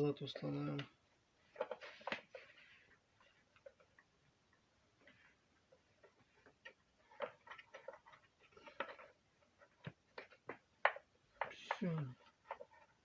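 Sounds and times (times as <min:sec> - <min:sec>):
plastic parts clicking and tapping: 0:00.7 - 0:13.0.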